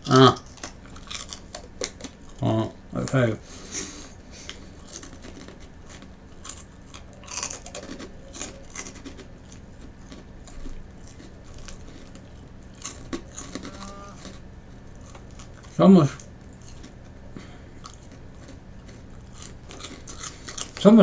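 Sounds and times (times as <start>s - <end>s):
person chewing crunchy cracker: 0.0s - 21.0s
steady low hum: 0.0s - 21.0s.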